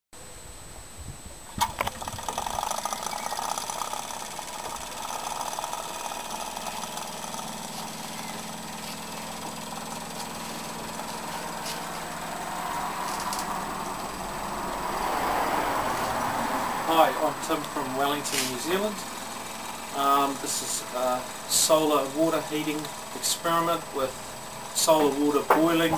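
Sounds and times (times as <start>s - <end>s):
steam engine running: 1.6s - 25.9s.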